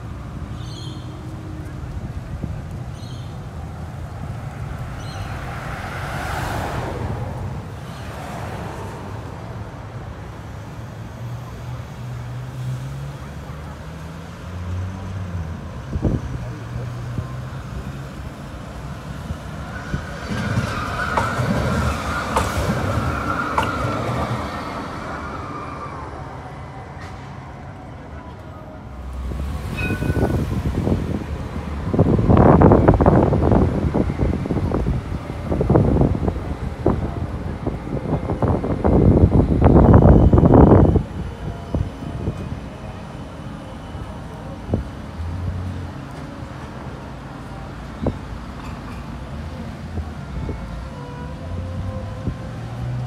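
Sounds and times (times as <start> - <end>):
tram passing with whine: 0.0 - 53.0.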